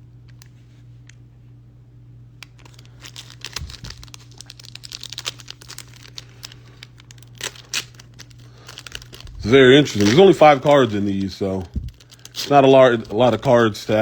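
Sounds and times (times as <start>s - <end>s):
low electrical hum: 0.0s - 14.0s
foil wrapper crinkling: 2.4s - 14.0s.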